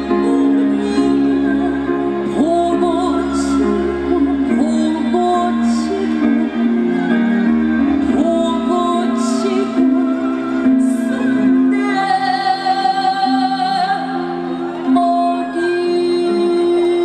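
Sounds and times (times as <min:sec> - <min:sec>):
woman singing with vibrato: 0:00.0 - 0:17.0.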